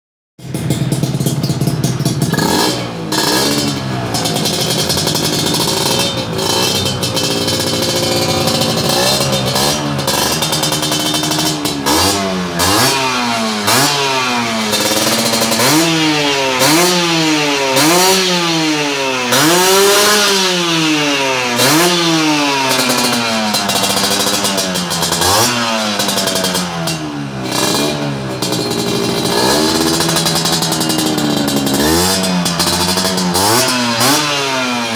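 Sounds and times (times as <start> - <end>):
motorcycle engine revving: 0.4 - 34.9.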